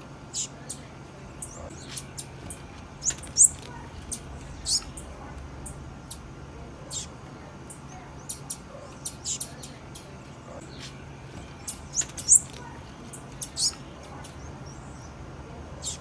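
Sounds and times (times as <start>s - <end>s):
bird chip calls: 0.0s - 15.2s, 15.8s - 16.0s.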